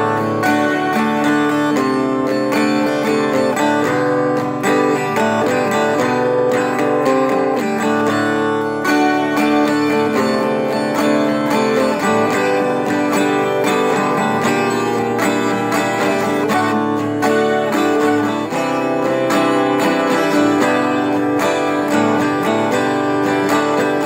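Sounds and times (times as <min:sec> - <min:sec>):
guitar strumming and picking: 0:00.0 - 0:24.0.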